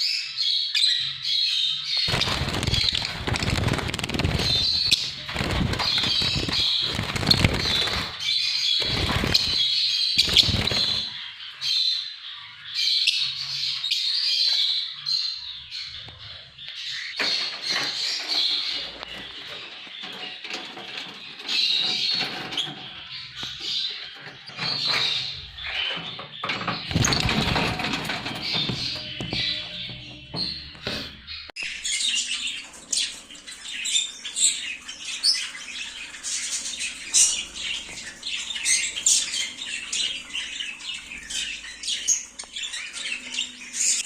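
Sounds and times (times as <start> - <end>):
parrots chattering and chirping: 0.0 - 44.0.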